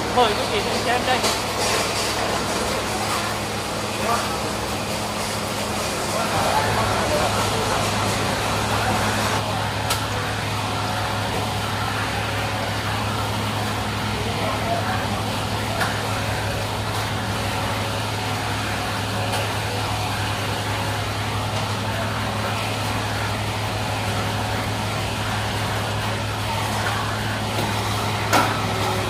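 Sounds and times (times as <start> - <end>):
oil press machinery humming: 0.0 - 29.0.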